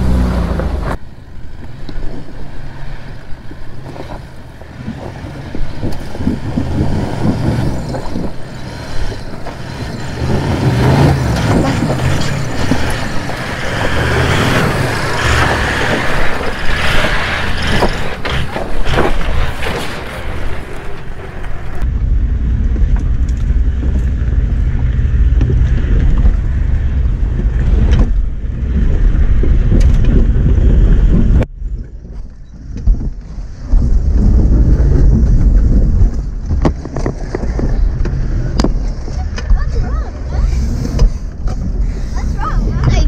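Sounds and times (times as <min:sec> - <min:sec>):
engine low rumble: 0:00.0 - 0:43.0.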